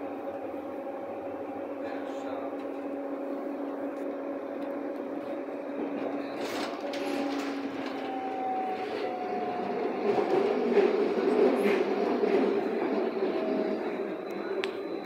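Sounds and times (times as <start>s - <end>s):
train motor whine: 0.0s - 15.0s
wheel and track rumble: 0.0s - 15.0s.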